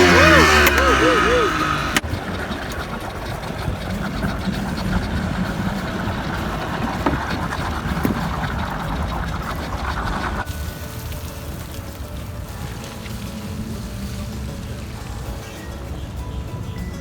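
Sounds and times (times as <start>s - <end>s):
steady rushing noise: 0.0s - 16.7s
engine idling: 0.0s - 17.0s.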